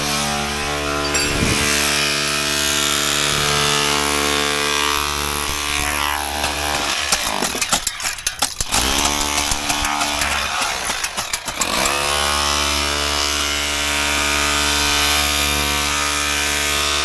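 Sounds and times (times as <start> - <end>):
demolition hammer chipping concrete: 0.0 - 17.0.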